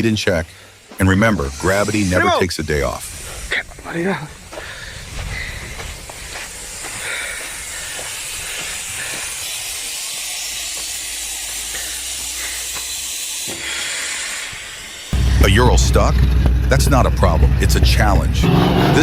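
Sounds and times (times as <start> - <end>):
steady hiss: 0.0 - 17.8.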